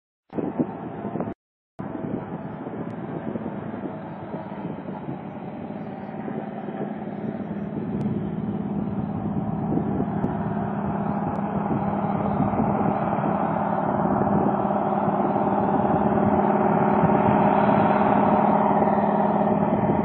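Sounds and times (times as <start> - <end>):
aircraft engine humming: 0.4 - 20.0.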